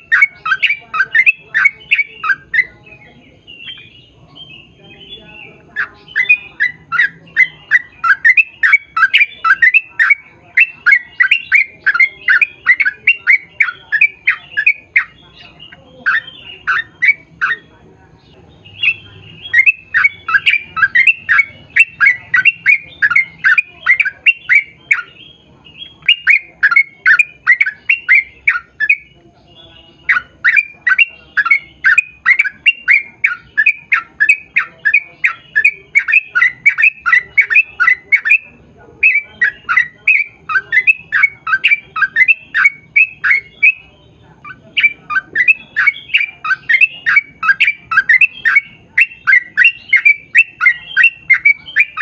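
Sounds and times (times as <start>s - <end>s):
bird chattering song: 0.0s - 52.0s.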